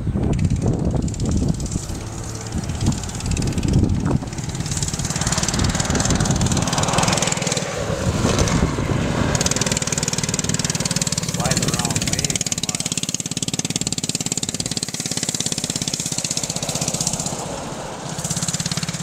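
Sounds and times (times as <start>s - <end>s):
small engine revving: 0.0s - 19.0s
truck driving across dirt: 0.0s - 19.0s.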